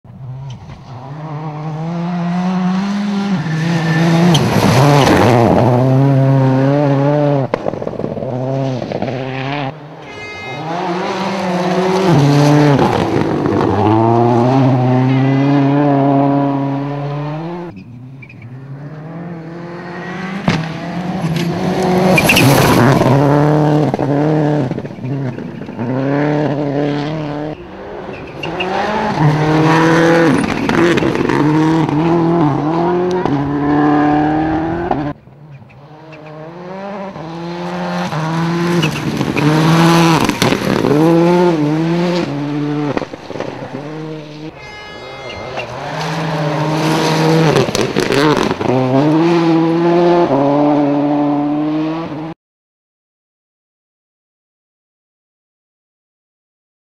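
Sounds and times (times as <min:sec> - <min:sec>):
rally cars passing at full throttle: 0:00.1 - 0:52.4.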